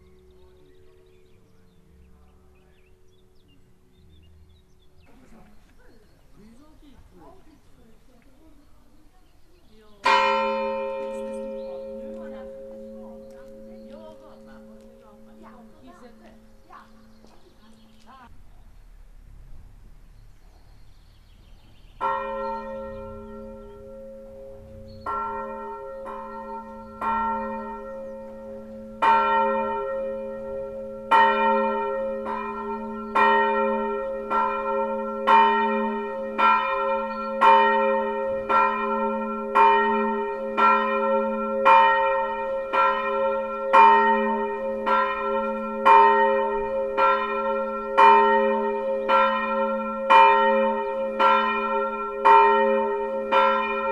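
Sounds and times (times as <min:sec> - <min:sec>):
church bell ringing: 0:00.0 - 0:03.5, 0:10.0 - 0:17.8, 0:22.0 - 0:53.9.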